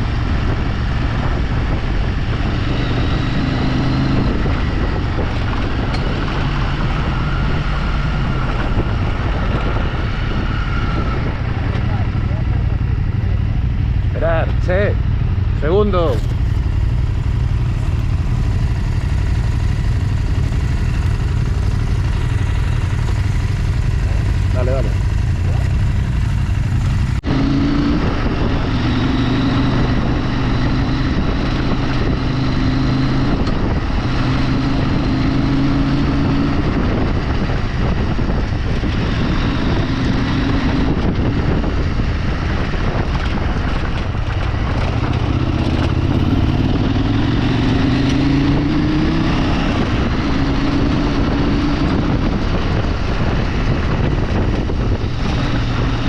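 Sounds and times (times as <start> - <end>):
vehicle engine revving: 0.0 - 14.8, 15.7 - 56.0
tyre road and wind noise: 0.0 - 56.0.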